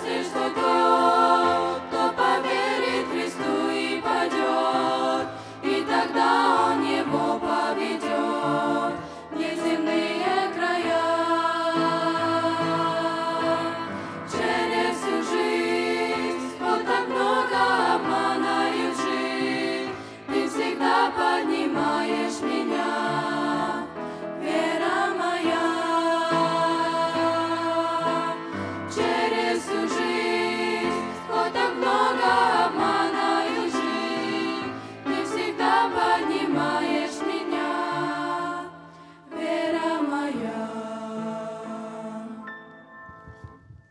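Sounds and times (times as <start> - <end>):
girls singing into microphones: 0.0 - 38.7.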